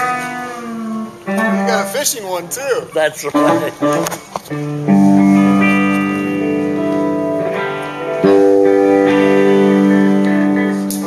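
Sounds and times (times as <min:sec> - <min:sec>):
guitar chords ringing out: 0:00.0 - 0:11.0.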